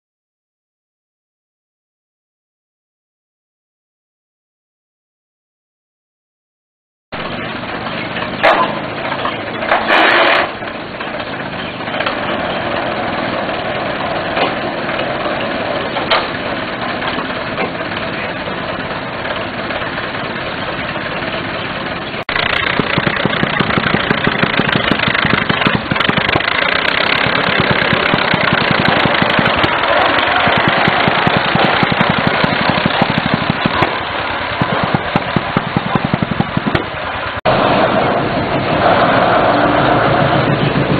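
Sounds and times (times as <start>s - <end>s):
engine mechanical clatter: 7.2s - 40.9s
rapid even engine beats: 7.2s - 40.9s.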